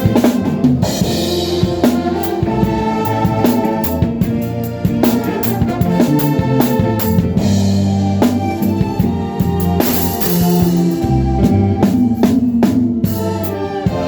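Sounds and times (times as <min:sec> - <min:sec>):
drum strokes: 0:00.0 - 0:14.0
live band music: 0:00.0 - 0:14.0.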